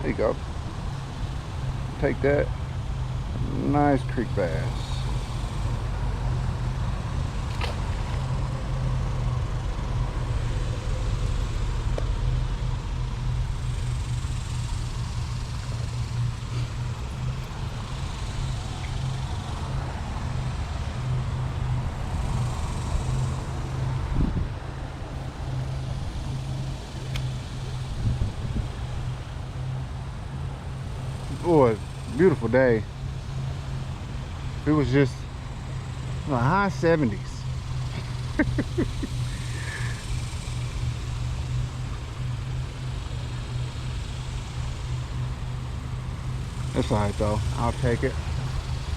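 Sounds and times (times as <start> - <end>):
road traffic rumble: 0.0 - 48.9
vehicles passing: 0.0 - 48.9.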